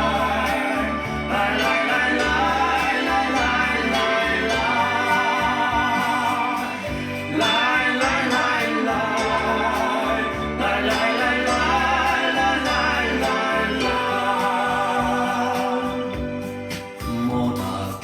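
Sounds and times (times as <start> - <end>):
instrumental folk music: 0.0 - 18.0.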